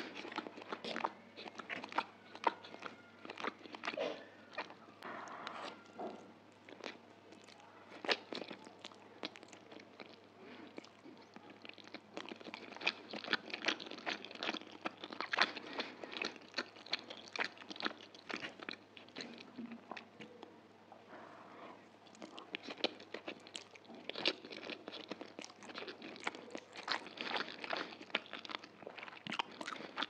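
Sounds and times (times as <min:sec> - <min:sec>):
crunching of vegetables: 0:00.0 - 0:20.4, 0:22.0 - 0:30.0
wet chewing with mouth clicks: 0:00.0 - 0:20.5, 0:21.6 - 0:30.0.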